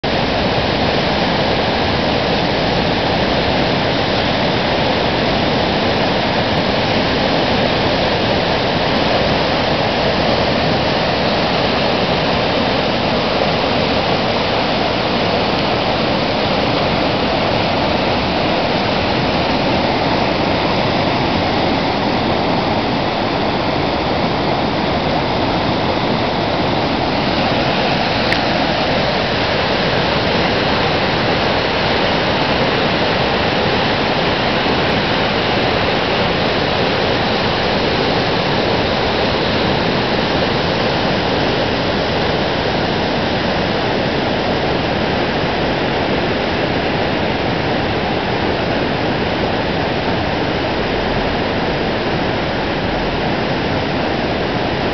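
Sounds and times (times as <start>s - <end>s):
flood water rushing: 0.0s - 54.9s.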